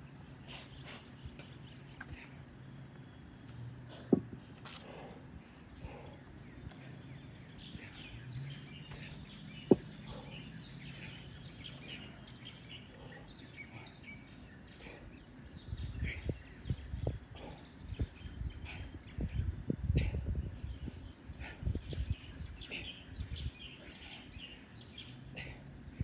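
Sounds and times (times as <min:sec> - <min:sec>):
outdoor background noise: 0:00.0 - 0:26.0
small birds chirping: 0:00.0 - 0:26.0.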